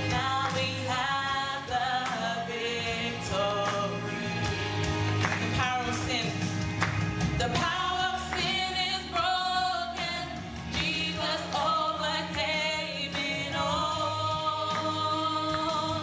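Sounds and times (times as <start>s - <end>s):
voices singing with vibrato: 0.0s - 6.4s, 7.4s - 16.0s
instrumental accompaniment: 0.0s - 16.0s.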